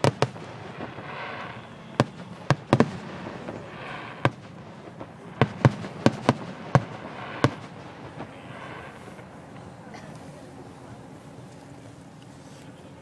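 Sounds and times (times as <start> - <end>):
fireworks bangs: 0.0 - 11.4.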